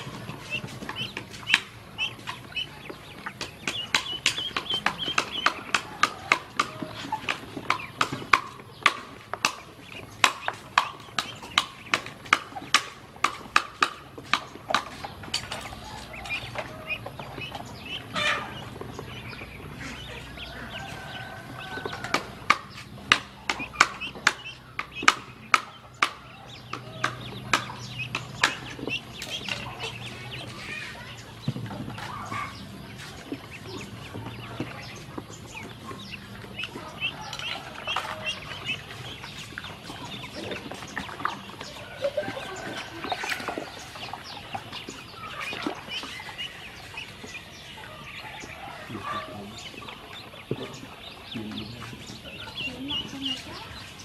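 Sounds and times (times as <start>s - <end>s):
ducklings dabbling in water: 0.0s - 54.0s
ducklings peeping: 0.0s - 54.0s.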